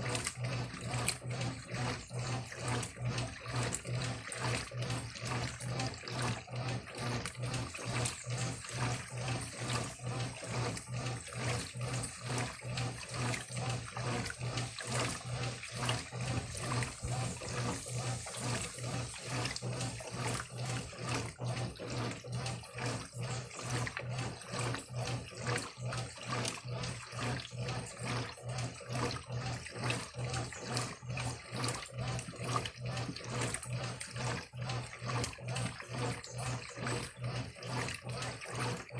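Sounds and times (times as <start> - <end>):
washing machine motor hum: 0.0 - 38.9
water sloshing in washing machine: 0.0 - 38.9.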